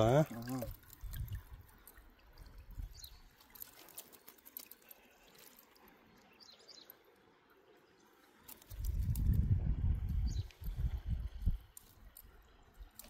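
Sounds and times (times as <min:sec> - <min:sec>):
water drips and splashes: 0:00.0 - 0:13.0.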